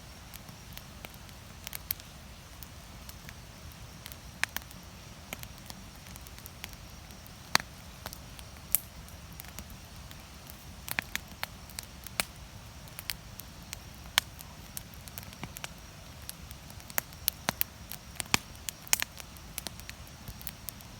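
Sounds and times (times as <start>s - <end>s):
campfire crackling and popping: 0.1s - 20.9s.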